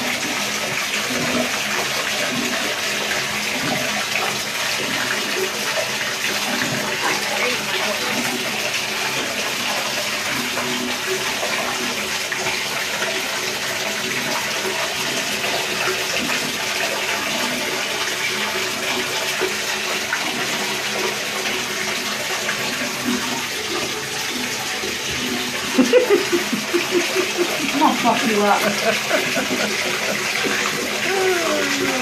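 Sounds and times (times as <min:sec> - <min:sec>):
water running in bathtub: 0:00.0 - 0:32.0.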